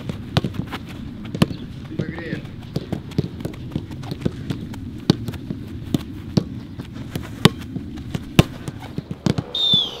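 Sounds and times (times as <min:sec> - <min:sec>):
footballs being kicked: 0:00.0 - 0:10.0.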